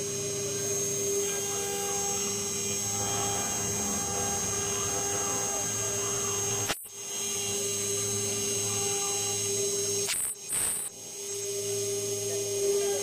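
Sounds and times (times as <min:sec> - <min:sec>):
router spindle high whine: 0:00.0 - 0:13.0.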